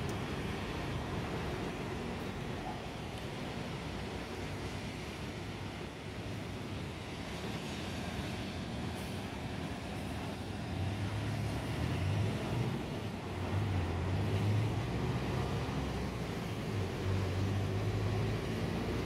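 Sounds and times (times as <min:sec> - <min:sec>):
low engine hum: 0:00.0 - 0:19.0
road traffic rumble: 0:00.0 - 0:19.0.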